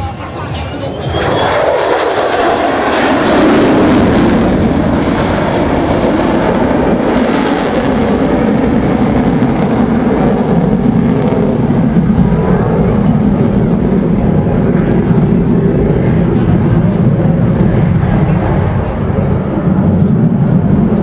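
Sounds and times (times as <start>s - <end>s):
jet flying past roaring: 0.0s - 21.0s.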